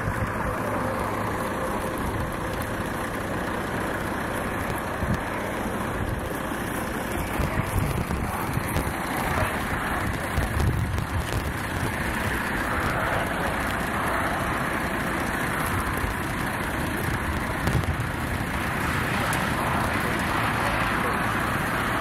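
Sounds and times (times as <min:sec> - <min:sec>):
low rumble: 0:00.0 - 0:21.6
motorway traffic rushing: 0:00.0 - 0:22.0.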